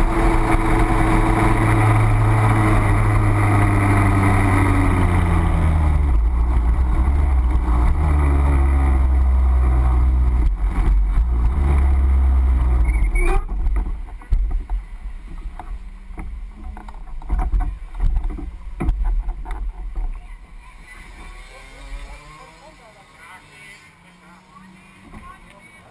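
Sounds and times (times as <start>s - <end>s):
kart engine running: 0.0s - 25.9s.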